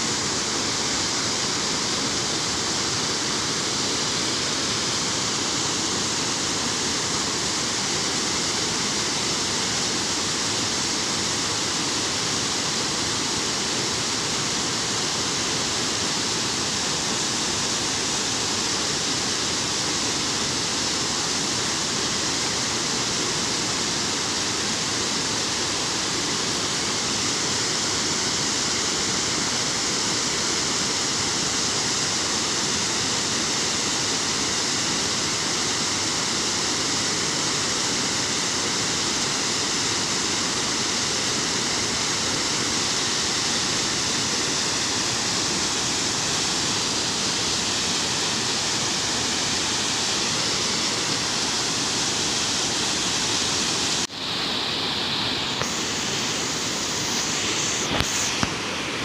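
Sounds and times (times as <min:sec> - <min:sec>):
water rushing down a spillway: 0:00.0 - 0:59.0.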